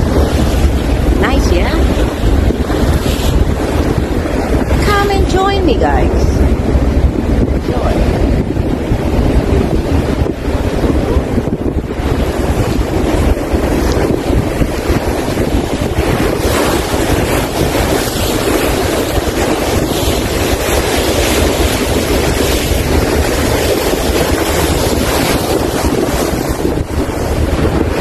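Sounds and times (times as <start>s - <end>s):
ferry engine noise: 0.0s - 28.0s
rushing water: 0.0s - 28.0s
wind buffeting microphone: 0.0s - 28.0s.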